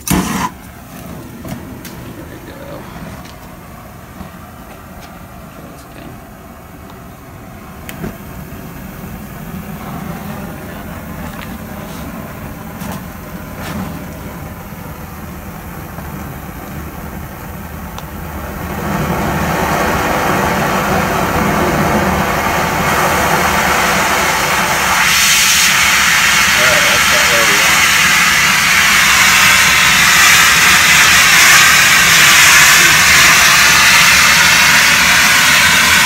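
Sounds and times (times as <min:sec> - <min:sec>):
torch flame hissing: 0:00.0 - 0:04.1, 0:07.6 - 0:36.0.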